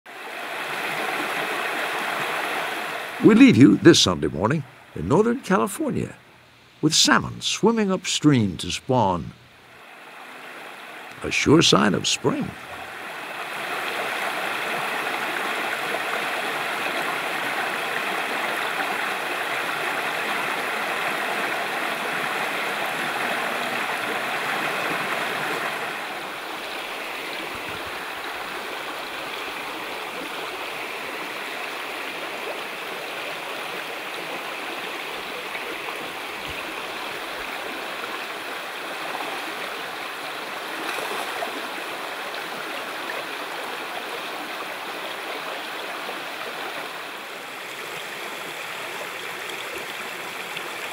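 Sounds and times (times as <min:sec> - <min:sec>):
stream flowing over rocks: 0:00.1 - 0:03.4, 0:08.9 - 0:50.9.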